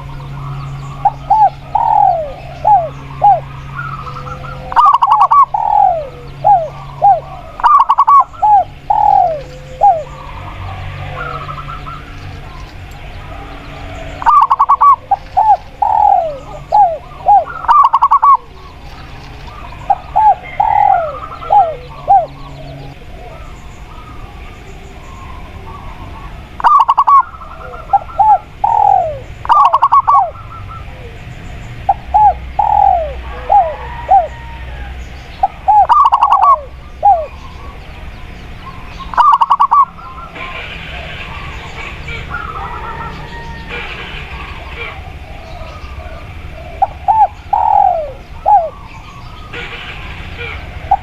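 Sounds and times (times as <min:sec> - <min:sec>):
dove cooing: 0:00.0 - 0:51.0
faint background hum: 0:00.0 - 0:51.0.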